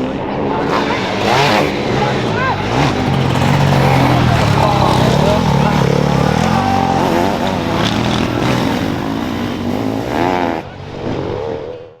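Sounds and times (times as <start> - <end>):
motocross engines revving: 0.5 - 10.7.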